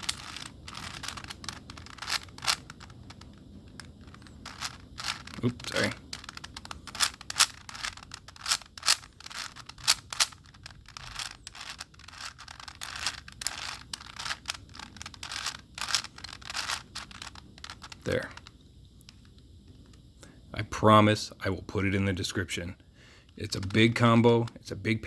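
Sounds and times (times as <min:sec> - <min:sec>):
puzzle cube layers clacking: 0:00.0 - 0:19.4, 0:23.5 - 0:25.0.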